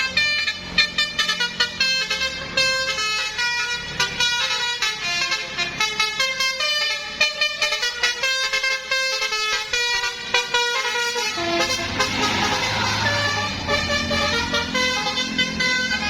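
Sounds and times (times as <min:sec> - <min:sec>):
bus engine running: 0:00.0 - 0:16.0
bus horn playing tune: 0:00.0 - 0:16.0.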